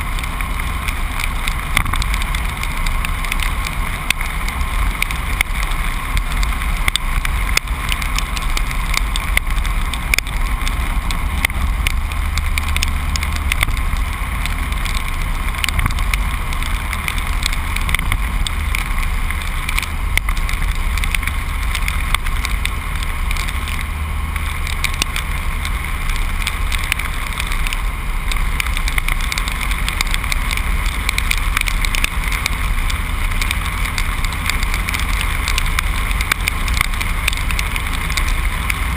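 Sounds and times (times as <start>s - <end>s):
small clicks and rattles: 0.0s - 38.9s
truck engine and road rumble: 0.0s - 38.9s.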